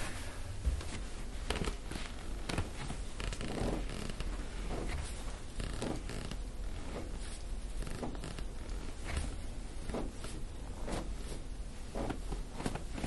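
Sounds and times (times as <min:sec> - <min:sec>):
hands rustling on cotton shirt: 0:00.0 - 0:13.0.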